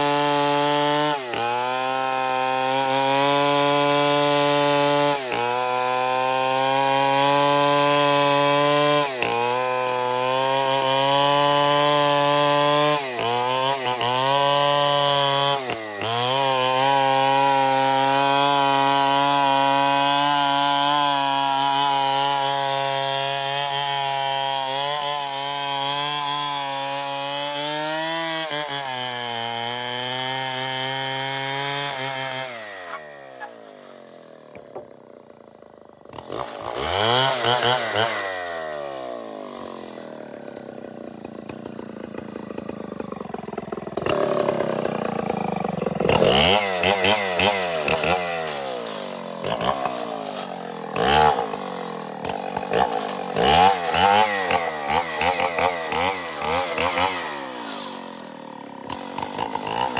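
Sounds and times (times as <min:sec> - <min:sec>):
chainsaw revving and idling: 0:00.0 - 0:59.9.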